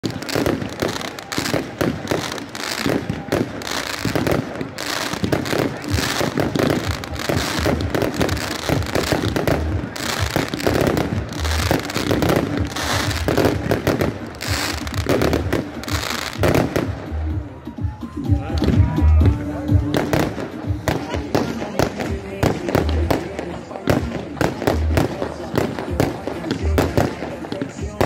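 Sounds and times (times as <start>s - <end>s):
fireworks crackling and popping: 0.0s - 17.4s, 18.4s - 28.0s.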